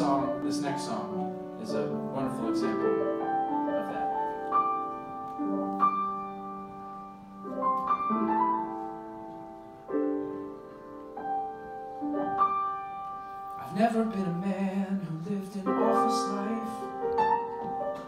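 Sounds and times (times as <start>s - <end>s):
piano chords ringing: 0.0s - 18.0s.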